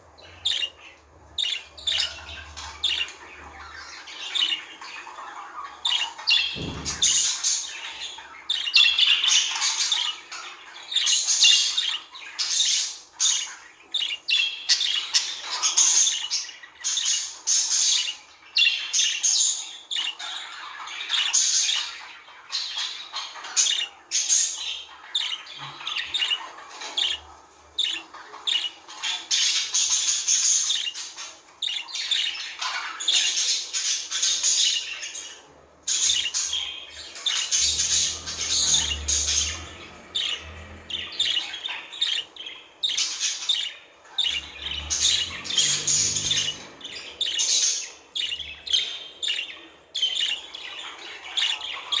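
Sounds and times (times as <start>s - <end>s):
budgerigars chattering: 0.0s - 52.0s.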